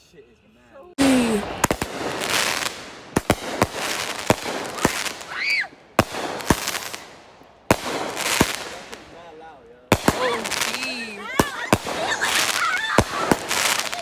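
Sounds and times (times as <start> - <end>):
crackling hiss: 1.0 - 14.0
fireworks bangs: 1.0 - 14.0.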